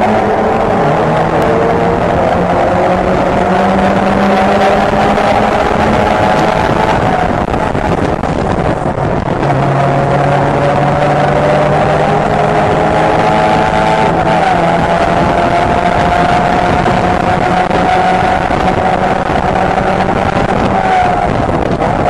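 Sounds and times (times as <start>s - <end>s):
race car engine at full throttle: 0.0s - 22.0s
wind and road noise: 0.0s - 22.0s.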